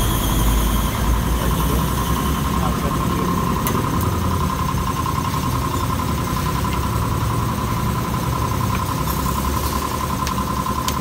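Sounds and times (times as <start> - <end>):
high-pitched whine: 0.0 - 11.0
vehicle engine idling: 0.0 - 11.0.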